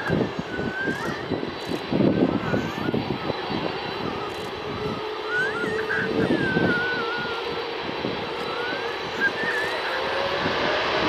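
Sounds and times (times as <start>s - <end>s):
jet engines rumbling: 0.0s - 11.0s
thin high wavering tone: 0.0s - 11.0s.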